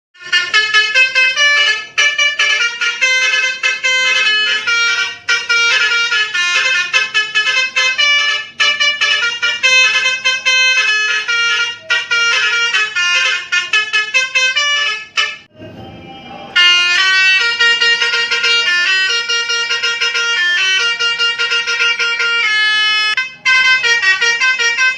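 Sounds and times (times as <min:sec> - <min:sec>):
musical horn melody: 0:00.2 - 0:15.6, 0:16.5 - 0:24.9.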